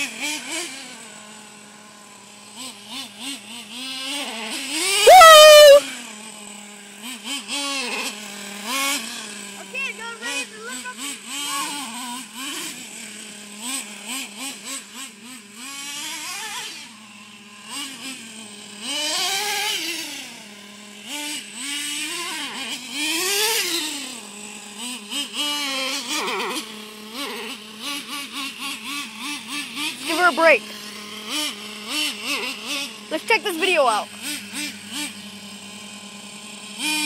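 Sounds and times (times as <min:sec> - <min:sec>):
rc truck nitro engine revving: 0:00.0 - 0:37.0.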